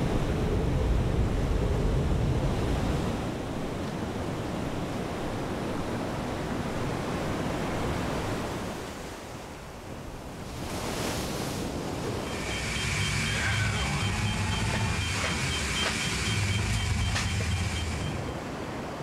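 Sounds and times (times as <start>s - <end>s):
heavy surf waves: 0.0s - 19.0s.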